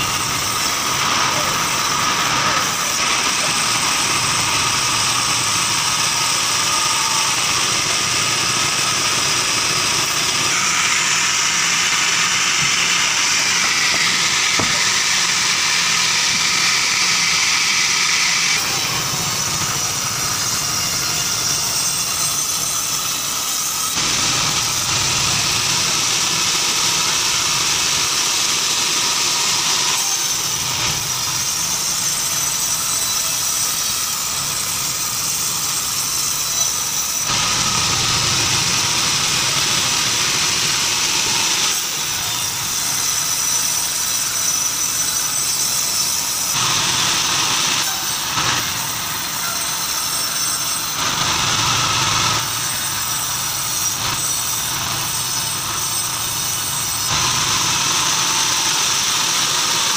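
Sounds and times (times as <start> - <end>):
high mechanical whine: 0.0 - 59.9
sawmill machinery running: 0.0 - 59.9.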